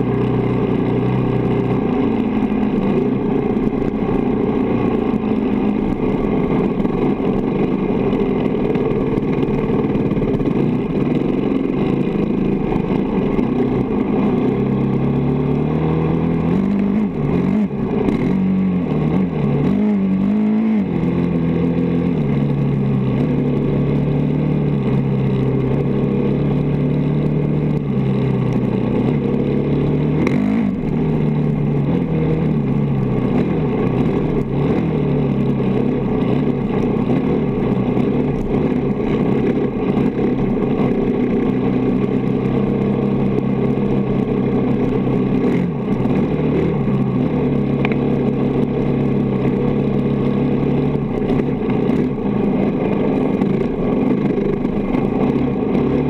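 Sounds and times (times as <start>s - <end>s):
dirt bike engine revving: 0.0s - 27.9s, 28.6s - 56.0s.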